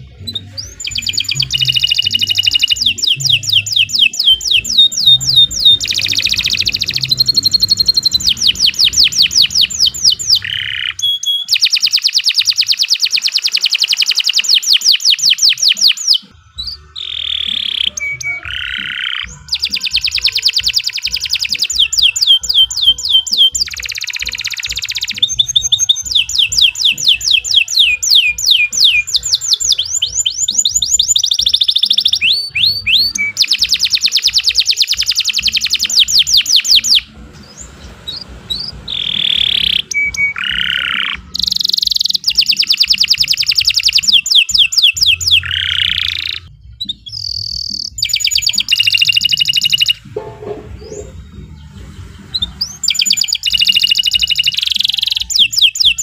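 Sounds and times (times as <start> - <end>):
canary singing fast trills: 0.0 - 56.0.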